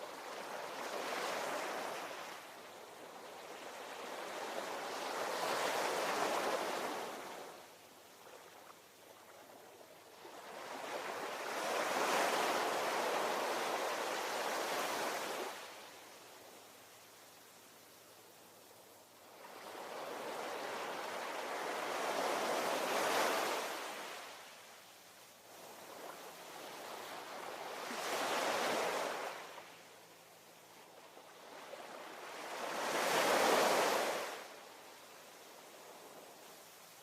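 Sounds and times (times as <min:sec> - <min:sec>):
ocean waves rolling in: 0:00.0 - 0:16.9, 0:19.1 - 0:24.7, 0:25.5 - 0:30.1, 0:30.7 - 0:37.0.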